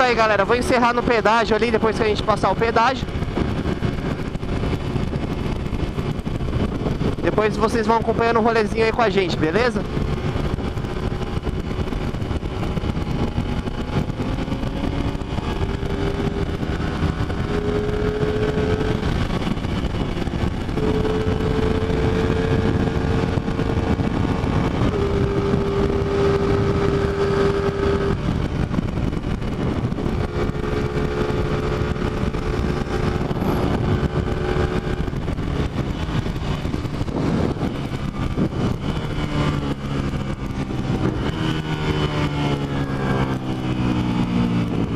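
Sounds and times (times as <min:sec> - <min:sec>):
motorcycle engine cruising: 0:00.0 - 0:44.9
wind rush on microphone: 0:00.0 - 0:44.9.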